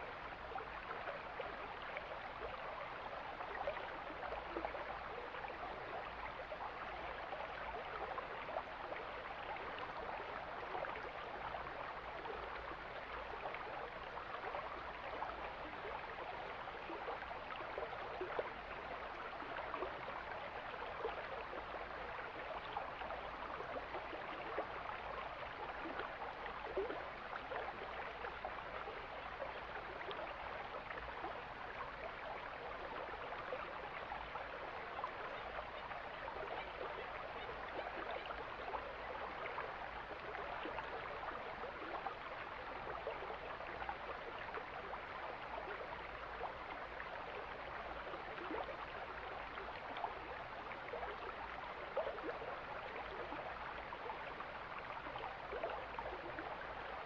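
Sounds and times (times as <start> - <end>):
water splashes and gurgles: 0.0 - 57.0.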